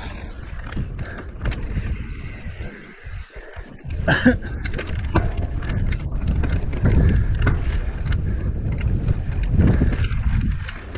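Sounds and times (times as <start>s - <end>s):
bike clicks and rattles: 0.0s - 10.9s
bike tyres on dirt trail: 0.0s - 10.9s
wind rumbling on microphone: 0.0s - 10.9s.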